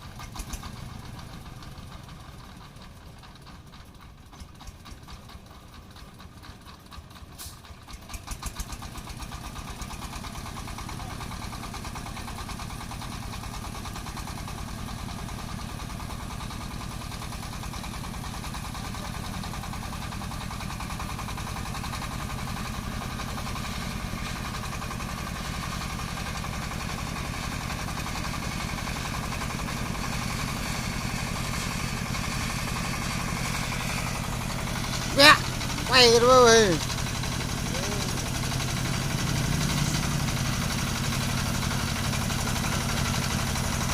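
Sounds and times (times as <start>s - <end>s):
engine knocks: 0.0s - 43.9s
farm vehicle engine running: 0.0s - 43.9s.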